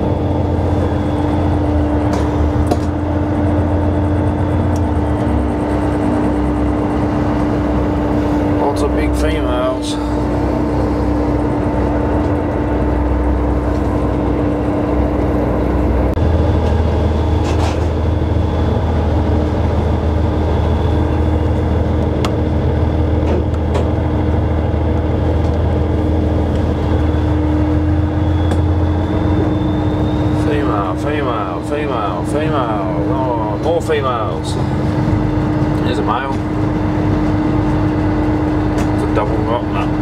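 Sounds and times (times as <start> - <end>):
boat engine droning: 0.0 - 40.0.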